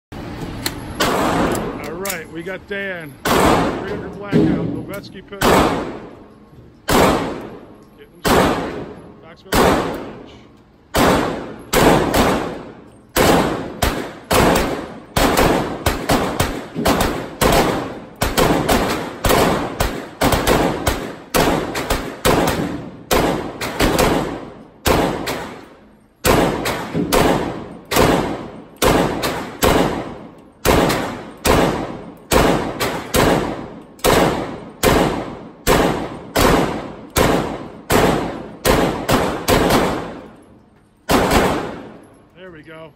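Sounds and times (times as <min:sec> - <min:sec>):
semi-automatic gunshots indoors: 0:00.9 - 0:01.8, 0:03.2 - 0:42.2.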